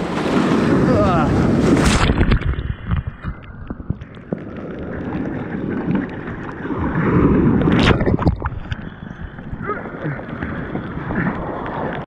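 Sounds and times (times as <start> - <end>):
surf water rushing and splashing: 0.0 - 12.0
wind buffeting microphone: 0.0 - 12.0.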